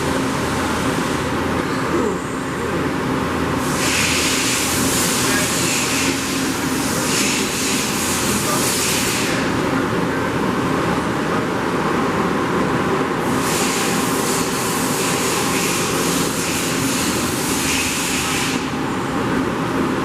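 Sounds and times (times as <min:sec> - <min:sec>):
shop machinery humming: 0:00.0 - 0:20.0.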